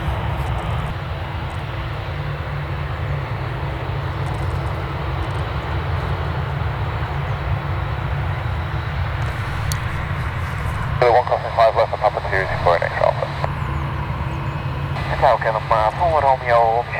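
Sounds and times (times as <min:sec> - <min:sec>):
jet engine rumble and hiss: 0:00.0 - 0:16.9.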